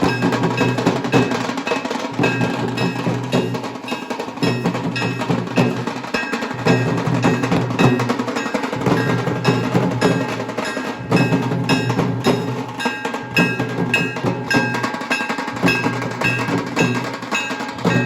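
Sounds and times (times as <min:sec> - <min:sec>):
ringing melody: 0:00.0 - 0:18.0
steady percussion beat: 0:00.0 - 0:18.0.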